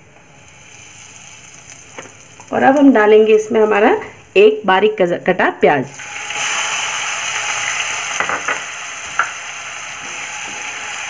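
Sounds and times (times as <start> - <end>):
onion sizzling in hot oil: 0.1 - 5.2, 5.8 - 11.0.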